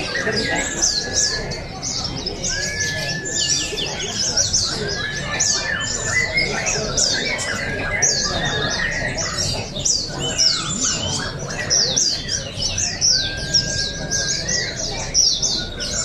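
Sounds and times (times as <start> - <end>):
birds chirping rapidly: 0.0 - 16.0.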